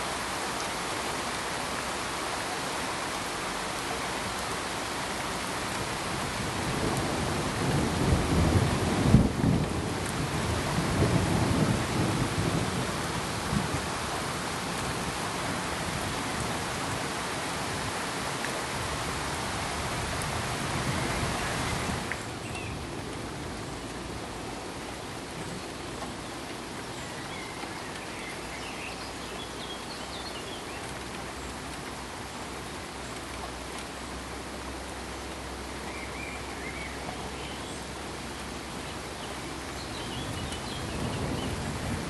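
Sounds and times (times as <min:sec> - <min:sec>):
pink noise hiss: 0:00.0 - 0:42.0.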